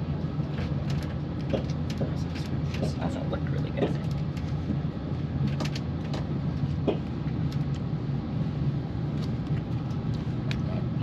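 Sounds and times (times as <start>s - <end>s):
train rumble inside carriage: 0.0s - 11.0s.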